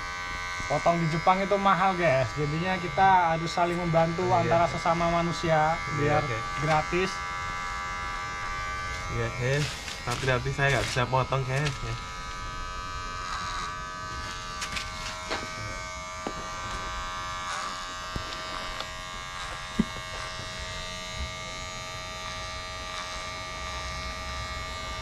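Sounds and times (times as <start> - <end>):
electric hair clippers buzzing: 0.0 - 25.0.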